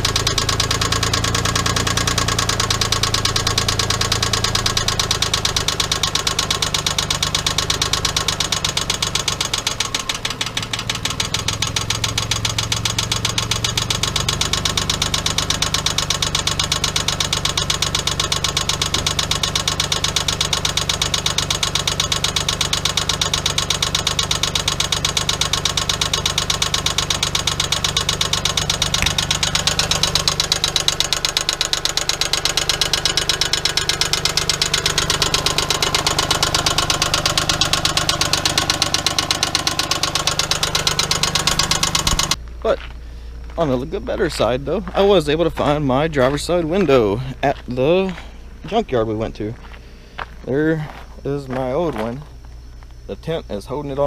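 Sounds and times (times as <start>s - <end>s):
engine idling with fast knock: 0.0s - 53.1s.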